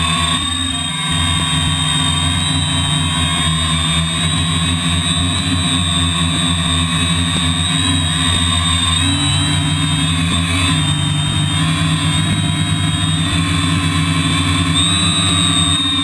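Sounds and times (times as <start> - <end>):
model airplane engine idling: 0.0 - 16.0
thin high whine: 0.0 - 16.0.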